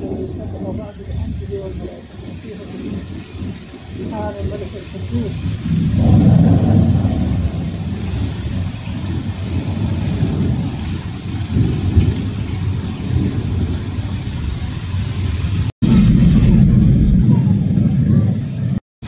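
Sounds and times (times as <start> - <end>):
heavy rain pouring: 0.0 - 18.8.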